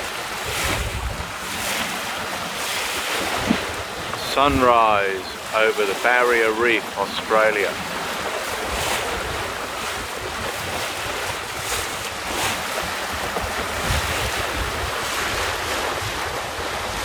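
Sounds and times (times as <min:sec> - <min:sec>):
wind buffeting microphone: 0:00.0 - 0:05.5, 0:07.8 - 0:17.0
water splashing past a hull: 0:00.0 - 0:17.0.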